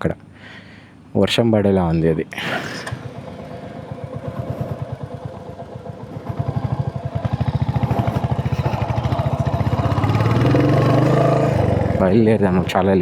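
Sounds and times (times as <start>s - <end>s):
motorcycle engine revving: 1.8s - 12.9s.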